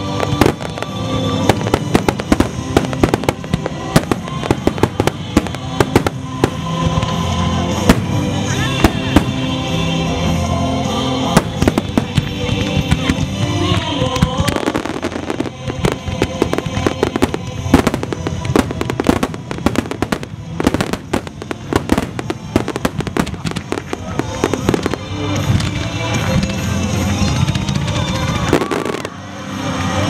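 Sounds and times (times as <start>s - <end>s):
fireworks bursting: 0.0s - 30.0s
music playing: 0.0s - 30.0s.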